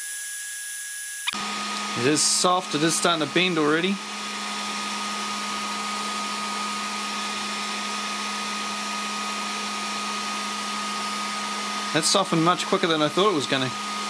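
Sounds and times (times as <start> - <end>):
heat gun blowing air: 0.0 - 14.0.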